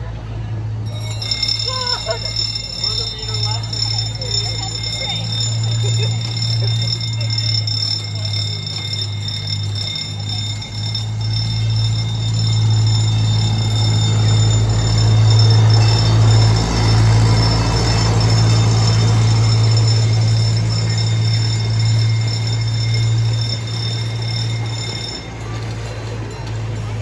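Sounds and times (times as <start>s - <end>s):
miniature train engine hum: 0.0s - 27.0s
train rolling noise: 0.0s - 27.0s.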